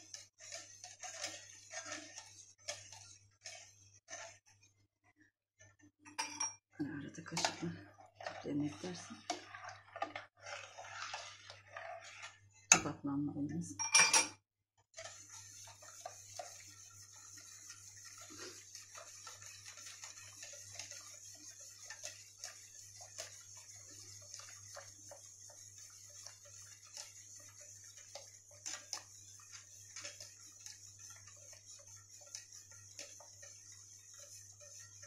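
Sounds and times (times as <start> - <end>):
whisk tapping against pot: 0.0 - 4.5, 7.2 - 13.0, 14.9 - 35.0.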